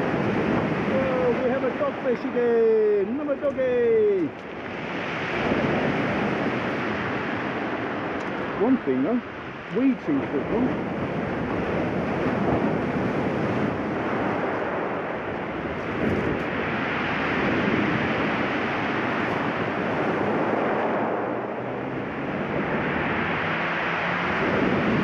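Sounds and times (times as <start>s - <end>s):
sea surf washing onto beach: 0.0s - 25.0s.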